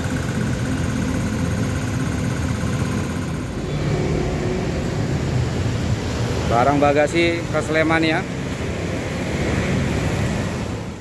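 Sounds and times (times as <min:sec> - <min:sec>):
high steady hum: 0:00.0 - 0:11.0
traffic engine rumble: 0:00.0 - 0:11.0.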